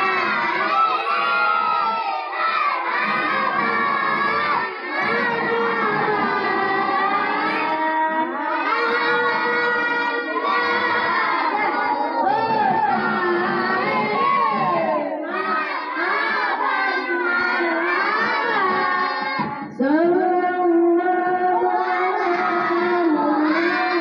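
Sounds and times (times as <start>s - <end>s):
children and women singing: 0.0s - 24.0s.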